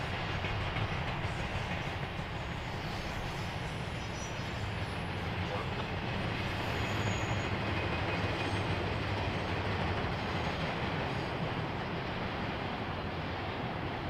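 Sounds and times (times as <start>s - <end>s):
train wheels on track: 0.0s - 14.0s.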